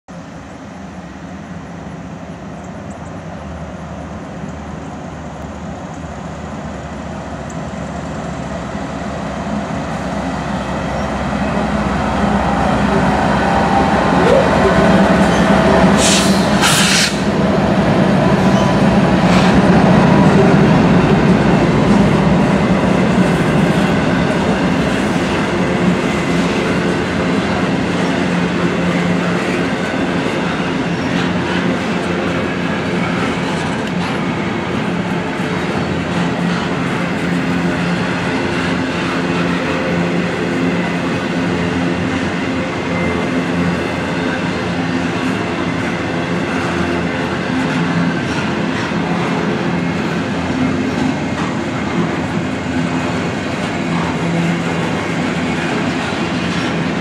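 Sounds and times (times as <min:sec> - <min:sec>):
diesel locomotive engine drone: 0:00.1 - 0:57.0
freight cars rumbling on rails: 0:00.1 - 0:57.0.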